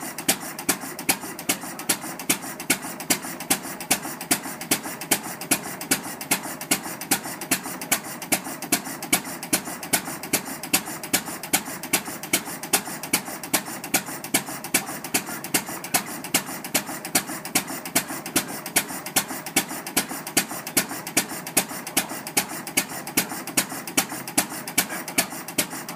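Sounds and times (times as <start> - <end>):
light engine clatter: 0.0 - 25.9
stationary engine beating: 0.0 - 25.9.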